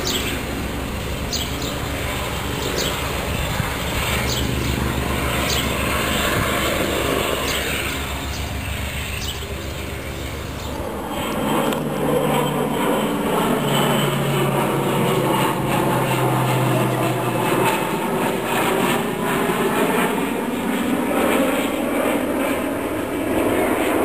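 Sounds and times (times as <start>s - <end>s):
low propeller hum: 0.0s - 24.0s
propeller plane drone: 0.0s - 24.0s.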